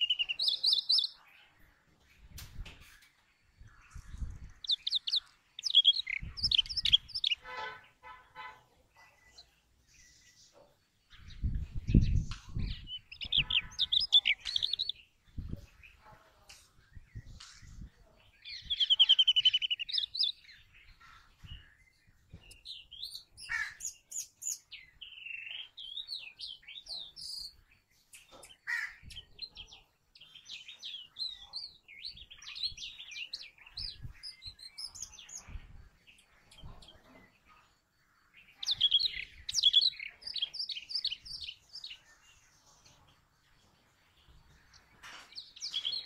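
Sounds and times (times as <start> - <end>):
bird high chirping calls: 0.0 - 1.7, 2.8 - 16.1, 17.0 - 46.0.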